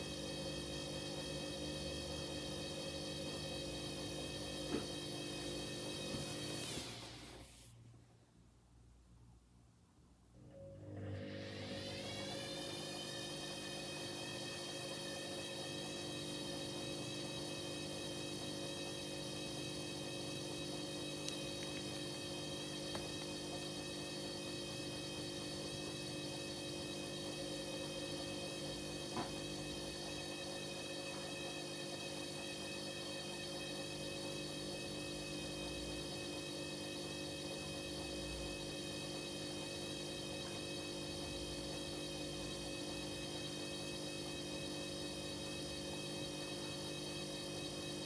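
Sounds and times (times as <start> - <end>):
washing machine motor whine: 0.0 - 7.6, 10.4 - 48.0.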